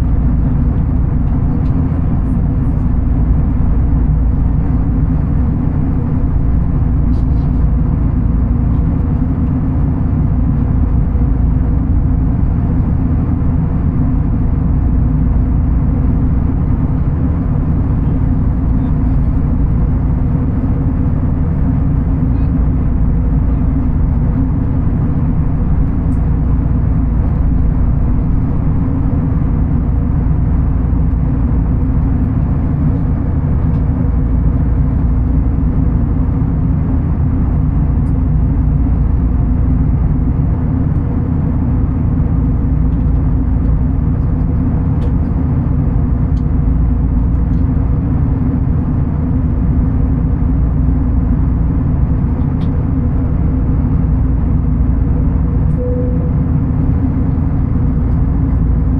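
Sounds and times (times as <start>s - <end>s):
low vehicle rumble: 0.0s - 58.9s
steady hum: 0.0s - 58.9s.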